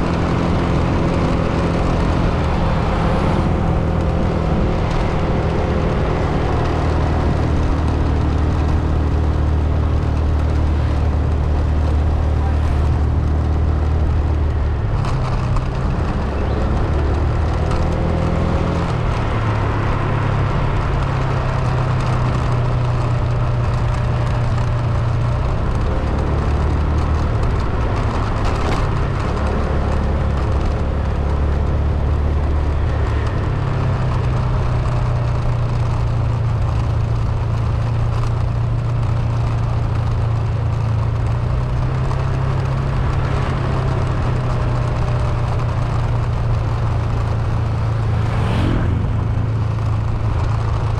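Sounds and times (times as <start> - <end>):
car engine and road rumble: 0.0 - 50.9.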